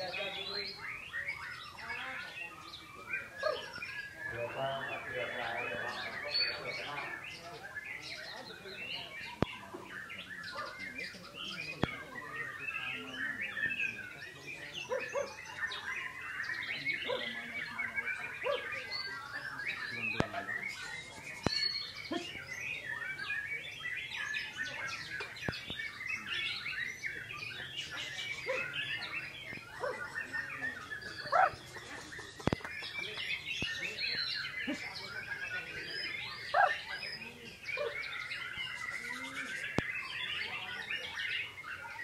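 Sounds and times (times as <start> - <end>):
bird singing: 0.0 - 42.0.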